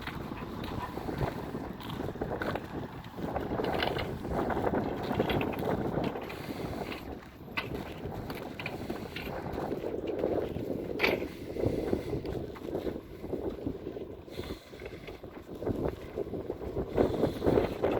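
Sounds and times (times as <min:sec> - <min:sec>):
vehicle rumbling on road: 0:00.0 - 0:17.9
wind buffeting microphone: 0:00.0 - 0:17.9.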